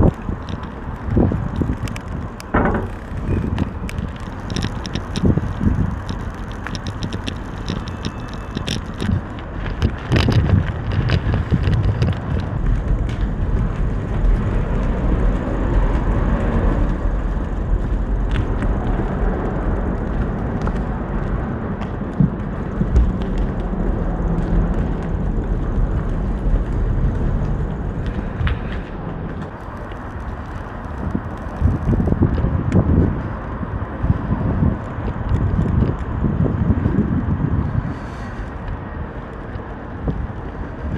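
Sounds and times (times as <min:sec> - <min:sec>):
bike rattling over bumps: 0:00.0 - 0:40.9
wind and tyres rumbling on road: 0:00.0 - 0:40.9.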